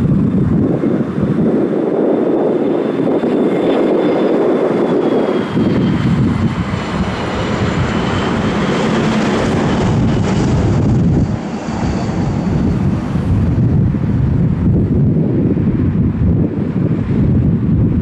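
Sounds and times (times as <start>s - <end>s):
loud jet engine noise: 0.0s - 18.0s.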